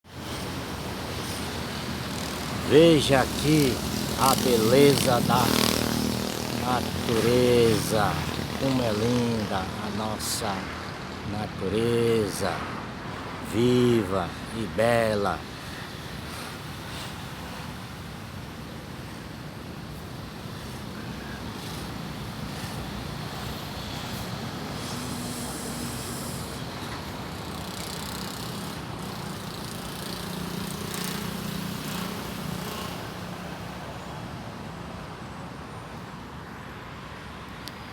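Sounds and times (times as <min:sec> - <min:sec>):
distant road traffic: 0:00.1 - 0:37.9.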